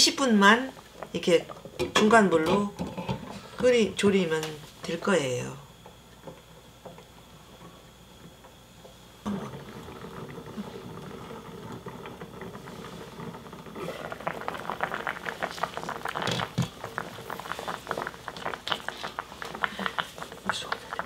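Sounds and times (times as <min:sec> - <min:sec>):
pot of water bubbling: 0:00.0 - 0:21.0.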